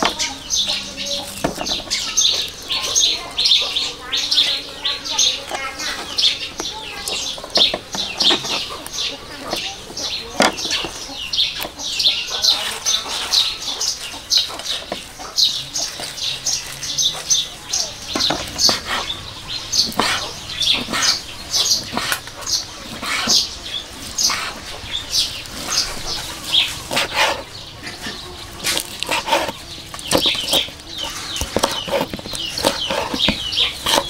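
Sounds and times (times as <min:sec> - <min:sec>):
lettuce rustling and crackling: 0:00.0 - 0:34.0.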